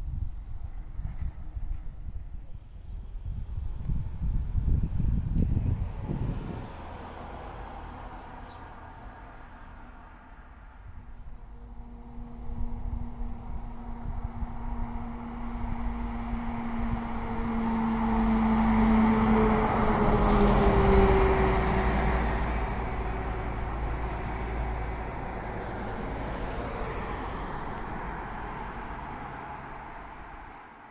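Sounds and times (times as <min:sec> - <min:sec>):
bus engine passing by: 0:01.9 - 0:30.9.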